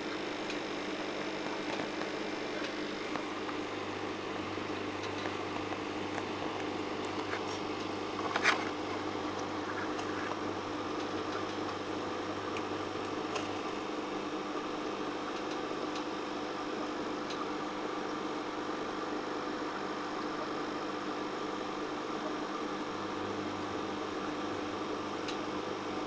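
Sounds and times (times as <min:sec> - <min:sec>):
aquarium equipment hum and hiss: 0:00.0 - 0:26.0.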